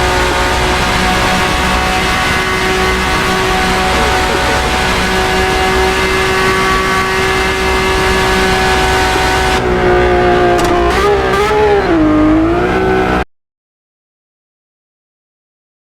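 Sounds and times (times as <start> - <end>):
sports car engine revving: 0.0 - 13.2.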